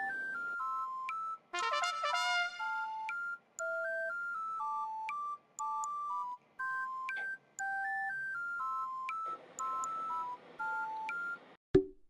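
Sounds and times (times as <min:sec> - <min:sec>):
electronic beep-like melody: 0:00.0 - 0:11.4.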